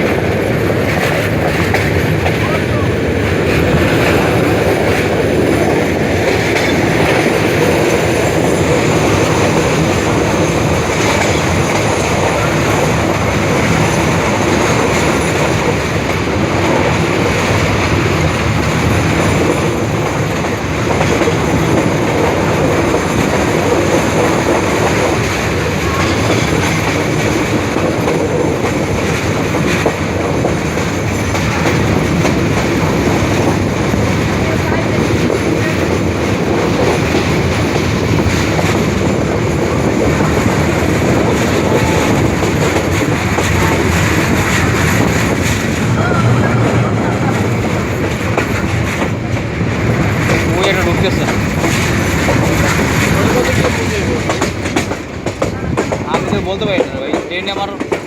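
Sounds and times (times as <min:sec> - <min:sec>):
train carriages rumbling: 0:00.0 - 0:58.0
wheels clattering over rails: 0:00.0 - 0:58.0.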